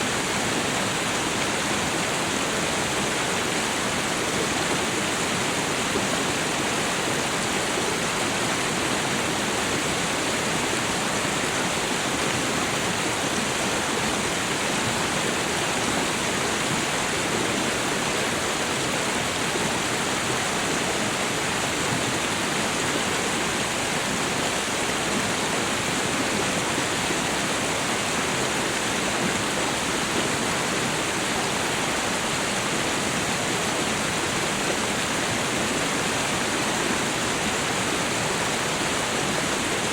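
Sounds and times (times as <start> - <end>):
running water: 0.0 - 39.9
small waterfall splashing: 0.0 - 39.9.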